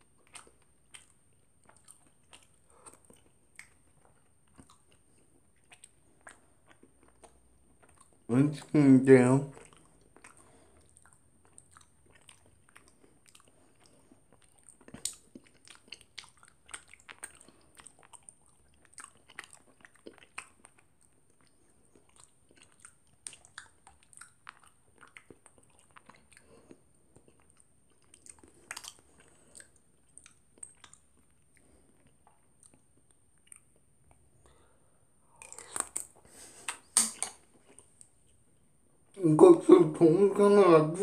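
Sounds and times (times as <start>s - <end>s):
person chewing crunchy cereal: 0.0s - 8.3s, 9.5s - 38.6s.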